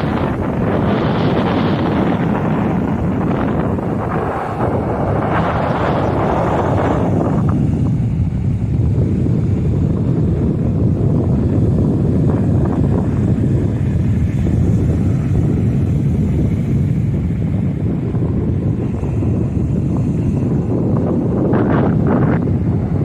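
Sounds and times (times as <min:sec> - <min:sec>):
rough sea surf: 0:00.0 - 0:23.0
wind buffeting microphone: 0:00.0 - 0:23.0.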